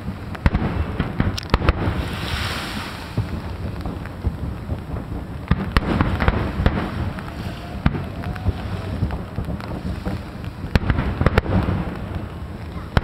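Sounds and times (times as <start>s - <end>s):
distant fireworks rumble: 0.0s - 13.0s
firework bangs and crackles: 0.0s - 13.0s
wind on microphone: 0.0s - 13.0s.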